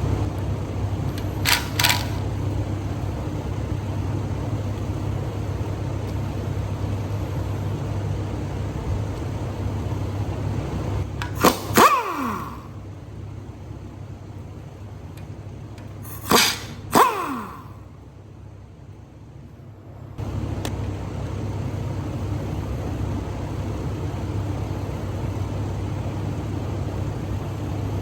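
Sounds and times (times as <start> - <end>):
low workshop hum: 0.0 - 28.0.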